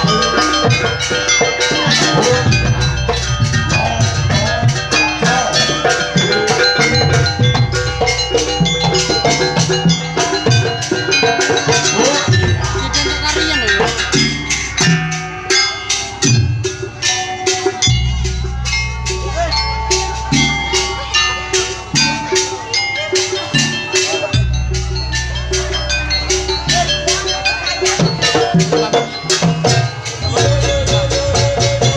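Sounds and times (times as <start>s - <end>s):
metal gong-chimes: 0.0s - 31.6s
drums: 0.0s - 31.9s
gamelan music: 0.0s - 31.9s.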